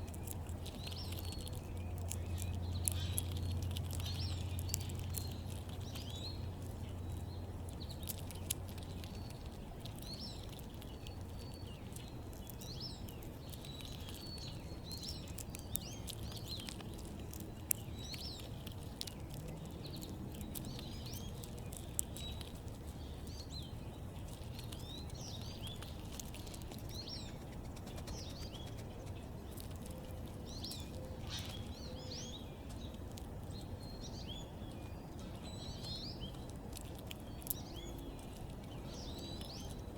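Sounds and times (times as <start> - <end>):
small birds chirping: 0.0 - 39.9
steady low rumble: 0.0 - 39.9.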